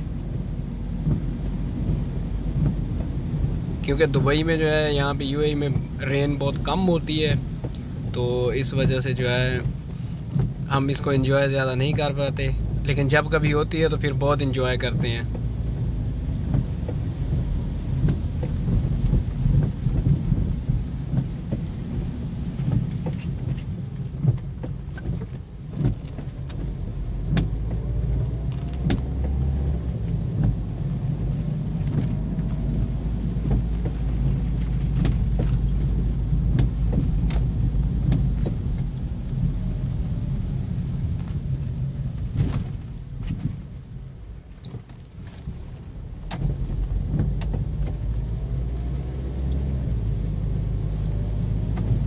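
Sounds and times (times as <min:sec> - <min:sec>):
car cabin low rumble: 0:00.0 - 0:52.0
raindrops ticking on windscreen: 0:00.0 - 0:52.0.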